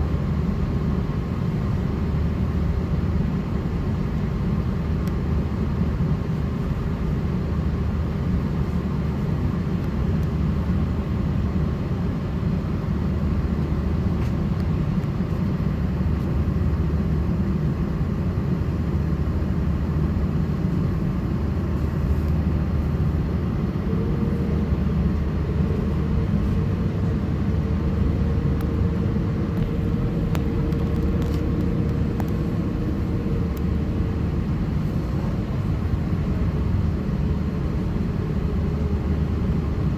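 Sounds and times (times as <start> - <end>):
aircraft cabin low rumble: 0.0 - 39.9
faint steady hum: 0.0 - 39.9.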